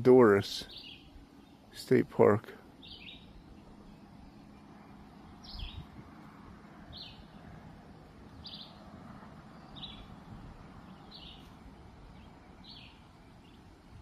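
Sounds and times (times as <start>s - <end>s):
bird calling: 0.0s - 6.0s, 8.2s - 14.0s
low background noise: 0.0s - 14.0s.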